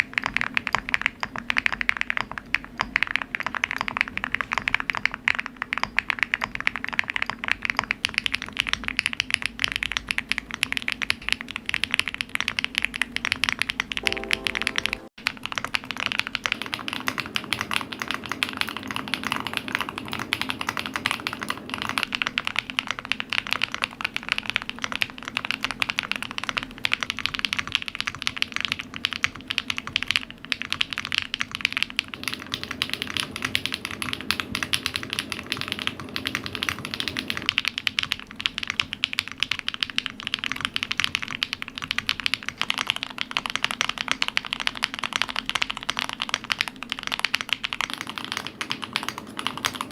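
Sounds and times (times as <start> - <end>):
mechanical keyboard typing: 0.0 - 49.9.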